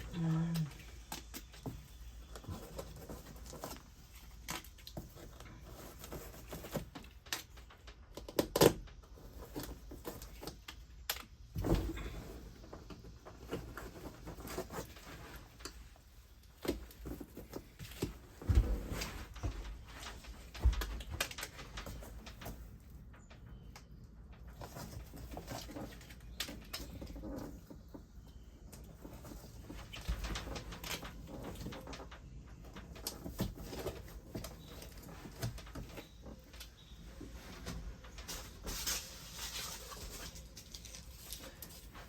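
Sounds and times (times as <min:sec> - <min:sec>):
light clicks and handling noise: 0:00.0 - 0:42.0.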